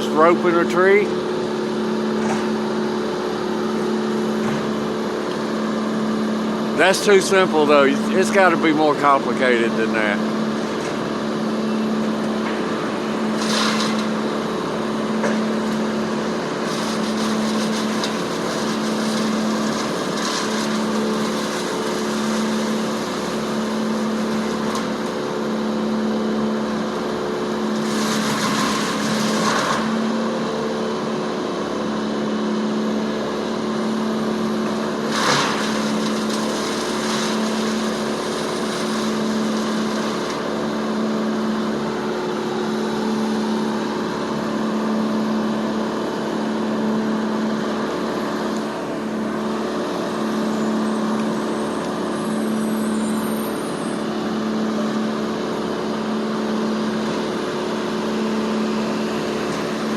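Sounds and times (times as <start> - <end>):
engine humming: 0.0 - 31.1, 32.7 - 59.9.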